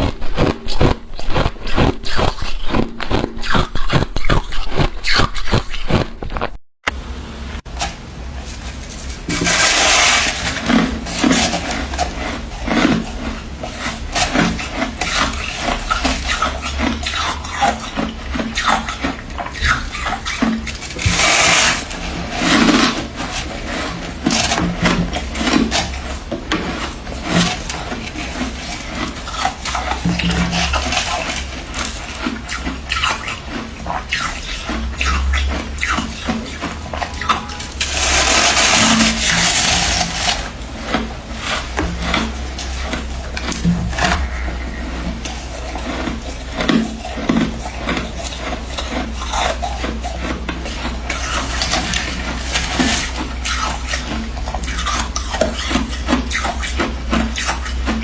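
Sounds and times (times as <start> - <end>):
frost crunching: 0.0 - 6.6, 8.4 - 58.0.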